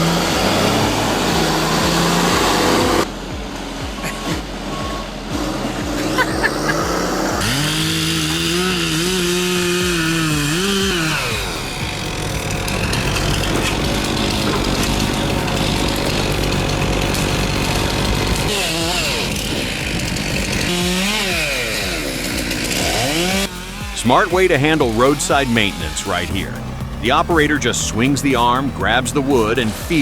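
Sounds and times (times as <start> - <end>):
chainsaw running and cutting: 0.0 - 30.0
chainsaw throttle blips: 3.8 - 30.0.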